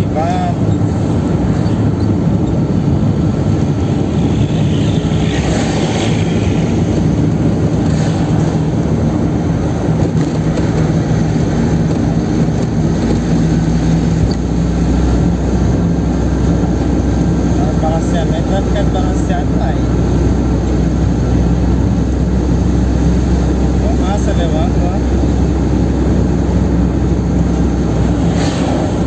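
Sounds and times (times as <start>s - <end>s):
car engine drone: 0.0s - 29.0s
road and wind noise: 0.0s - 29.0s.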